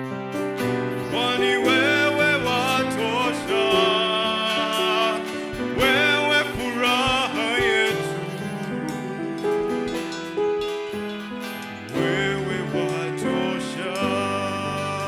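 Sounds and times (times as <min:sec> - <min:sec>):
acoustic guitar: 0:00.0 - 0:15.0
person singing long notes: 0:01.0 - 0:10.0, 0:11.9 - 0:15.0.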